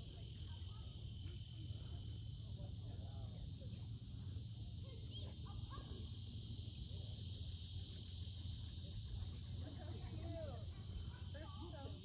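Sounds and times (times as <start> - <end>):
faint chirps: 0.0 - 10.4
insects chorus: 0.0 - 12.0.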